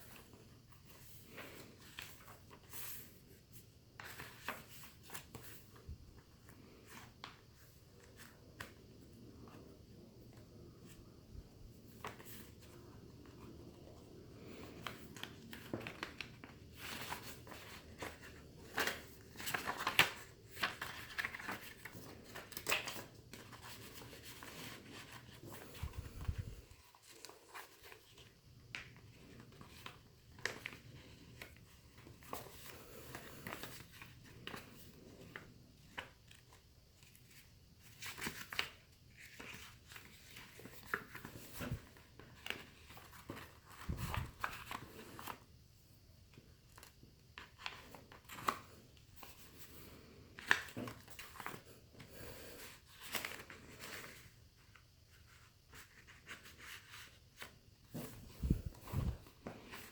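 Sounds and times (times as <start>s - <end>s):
paper rustling and crinkling: 0.0s - 45.5s, 46.3s - 59.9s.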